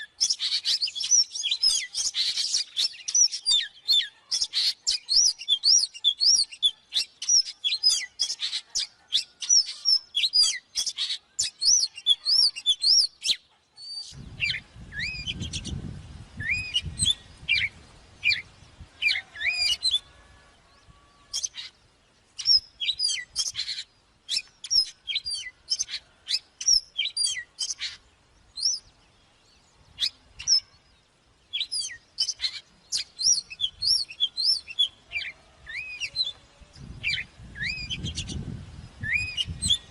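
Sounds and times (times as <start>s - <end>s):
bird singing whistles: 0.0s - 15.8s, 16.4s - 20.2s, 22.4s - 28.0s, 31.5s - 36.4s, 37.0s - 38.4s, 39.0s - 39.9s.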